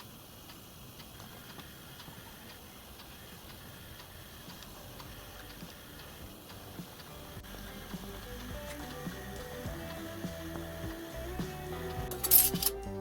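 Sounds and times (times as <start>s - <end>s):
faint regular ticking: 0.0s - 12.8s
low hiss: 0.0s - 13.0s.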